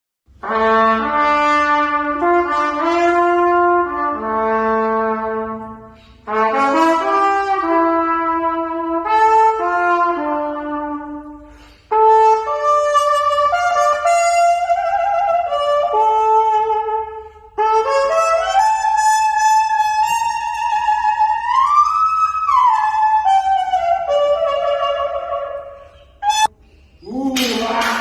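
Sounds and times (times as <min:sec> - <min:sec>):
brass instrument slow melody: 0:00.4 - 0:26.5.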